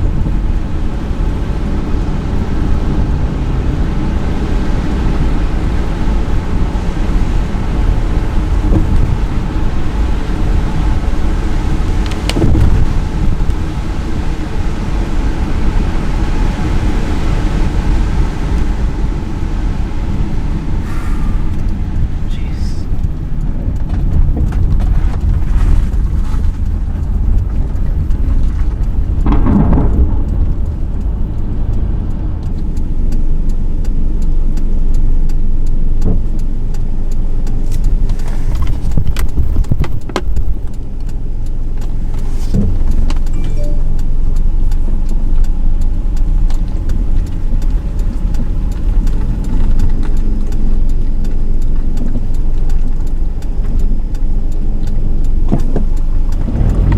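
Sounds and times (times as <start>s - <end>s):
heavy rain on vehicle: 0.0s - 56.9s
road noise rumble: 0.0s - 56.9s.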